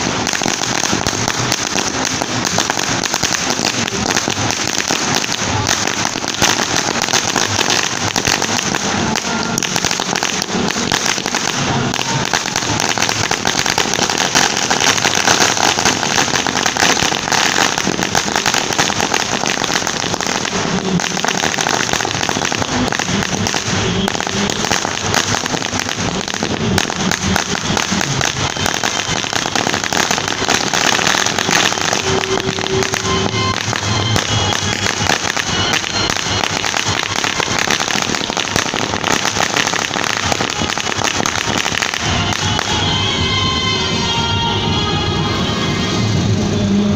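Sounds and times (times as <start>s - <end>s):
string of firecrackers rattling: 0.0s - 46.9s.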